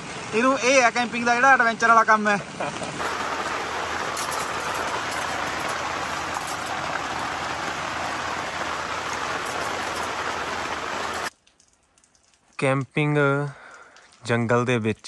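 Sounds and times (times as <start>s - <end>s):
heavy rain on tarp: 0.0s - 15.0s.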